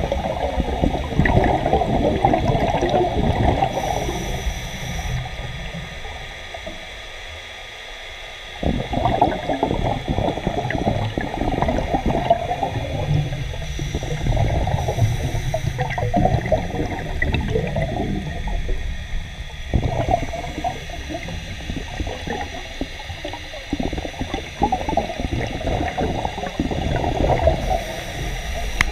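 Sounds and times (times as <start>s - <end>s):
diver's bubbles gurgling: 0.0s - 28.9s.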